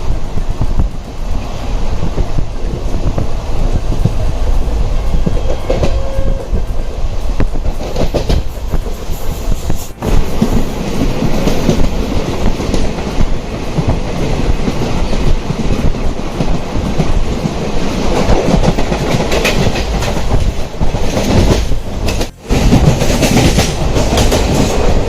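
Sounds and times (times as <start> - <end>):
train rumble: 0.0 - 25.0
train wheels clacking on rail joints: 0.0 - 25.0.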